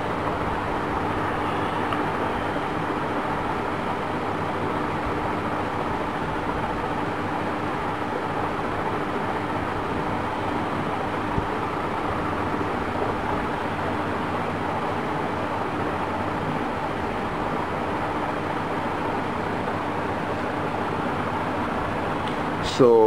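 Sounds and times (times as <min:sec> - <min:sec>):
faint steady hum: 0:00.0 - 0:23.0
steady background noise: 0:00.0 - 0:23.0.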